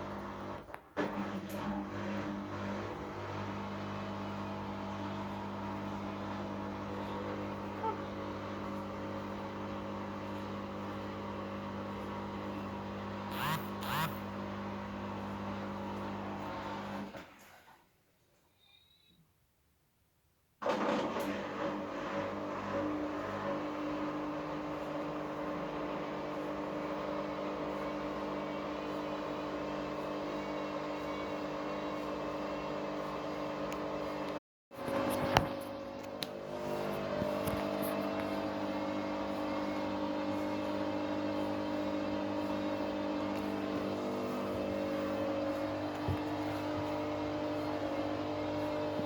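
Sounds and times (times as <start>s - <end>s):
washing machine spinning: 0.0s - 17.3s, 20.6s - 49.0s.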